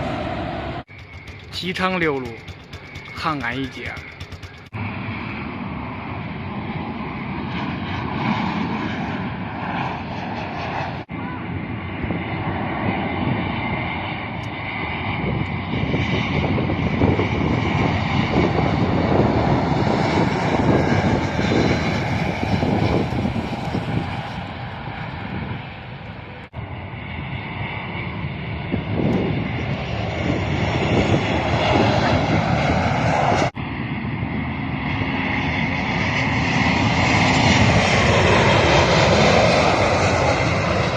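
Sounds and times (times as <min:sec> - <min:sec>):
jet airliner flying low: 0:00.0 - 0:40.9.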